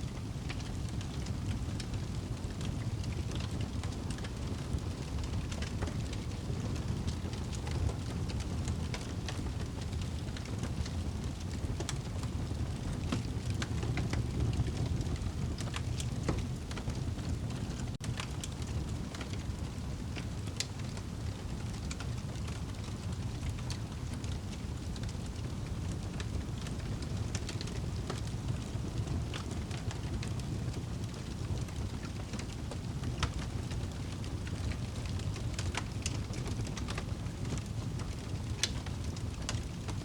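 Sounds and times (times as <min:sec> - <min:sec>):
burning wood crackling and popping: 0:00.0 - 0:40.0.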